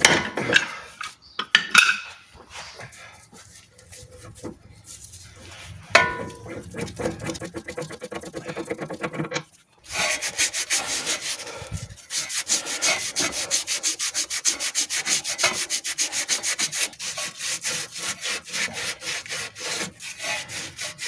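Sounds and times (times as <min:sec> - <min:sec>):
sandpaper rubbing on metal: 0:02.6 - 0:21.0.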